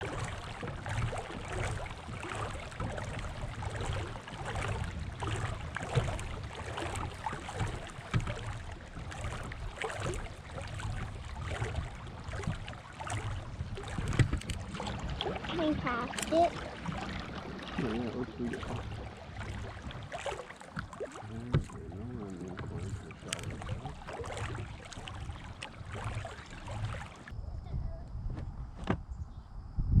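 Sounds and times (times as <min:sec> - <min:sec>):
water rushing: 0:00.0 - 0:27.3.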